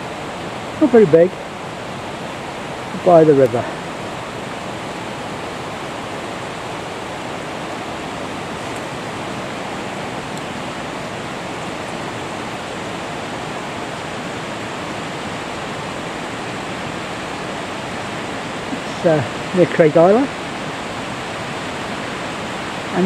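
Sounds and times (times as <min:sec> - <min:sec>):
fast-flowing river water rushing: 0:00.0 - 0:23.0.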